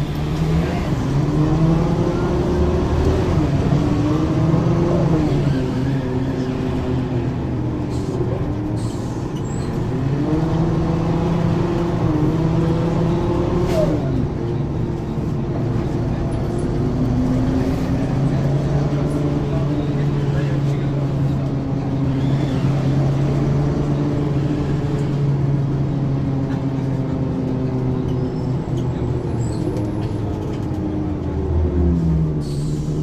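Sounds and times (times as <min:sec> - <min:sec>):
bus diesel engine accelerating: 0:00.0 - 0:33.0.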